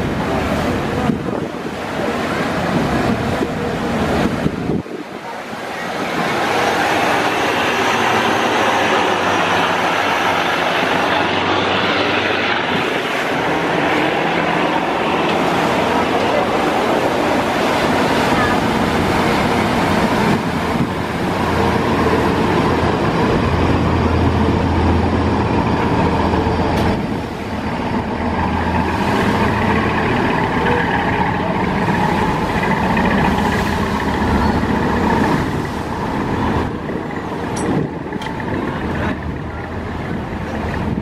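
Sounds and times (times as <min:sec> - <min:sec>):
boat diesel engines droning: 0:00.0 - 0:41.0
churning water rushing: 0:00.0 - 0:41.0.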